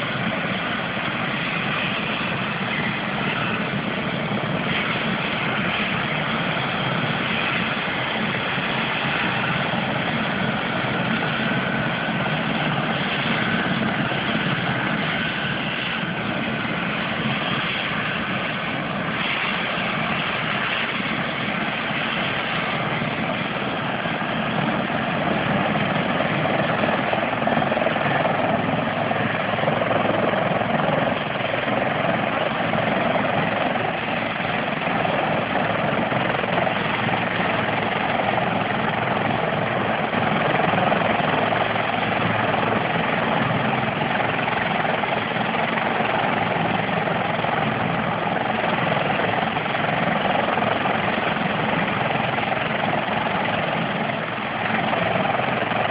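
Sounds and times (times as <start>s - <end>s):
helicopter turbine and rotors: 0.0s - 55.9s.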